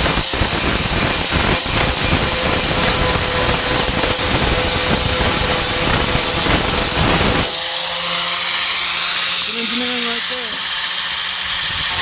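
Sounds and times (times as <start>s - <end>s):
angle grinder grinding metal: 0.0s - 12.0s.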